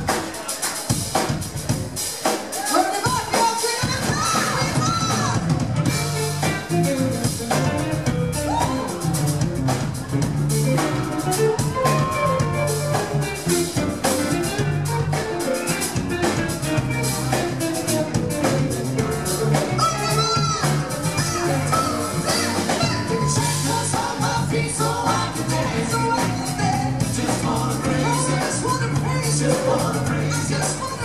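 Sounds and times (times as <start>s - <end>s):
drum kit beat: 0.0s - 31.0s
live band playing: 0.0s - 31.0s.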